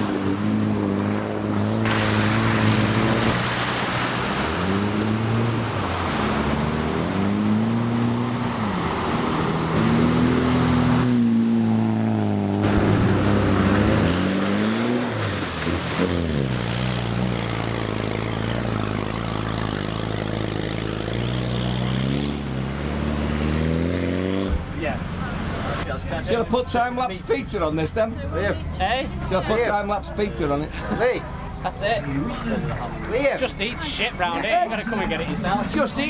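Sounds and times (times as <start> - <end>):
off-road vehicle engines revving: 0.0 - 36.0.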